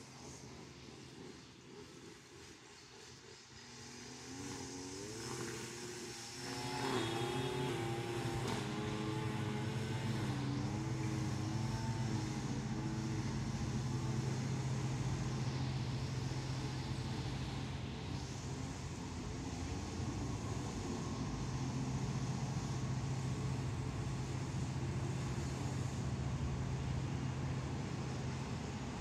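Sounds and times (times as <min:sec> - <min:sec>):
engine running: 0:00.0 - 0:29.0
steady low hum: 0:00.0 - 0:29.0.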